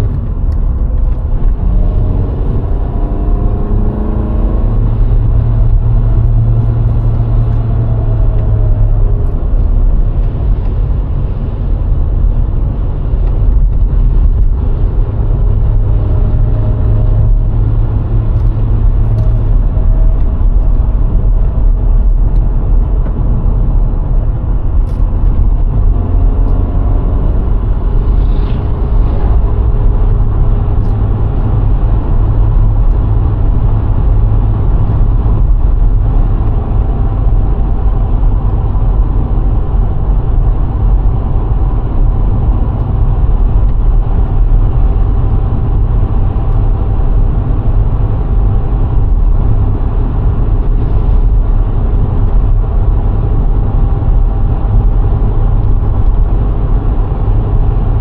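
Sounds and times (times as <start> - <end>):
car engine: 0.0 - 58.0
road and wind noise: 0.0 - 58.0.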